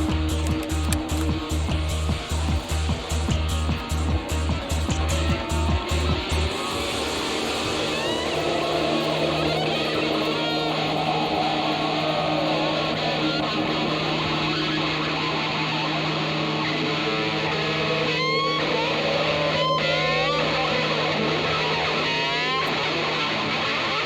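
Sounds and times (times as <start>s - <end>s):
upward-sliding notes: 0.0s - 22.5s
electric guitar soundtrack music: 0.0s - 24.0s.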